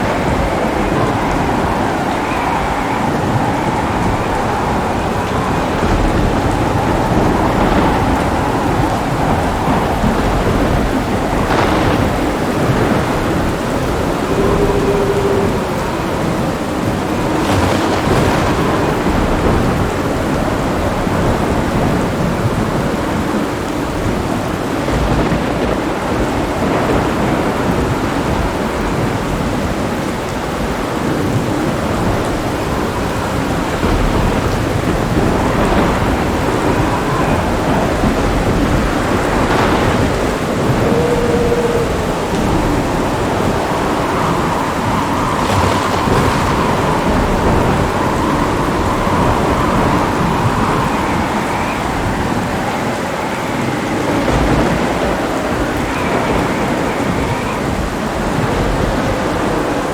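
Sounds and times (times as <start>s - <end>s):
deep rolling thunder: 0.0s - 59.9s
heavy rain falling: 0.0s - 59.9s
sharp thunder crackles: 0.0s - 59.9s.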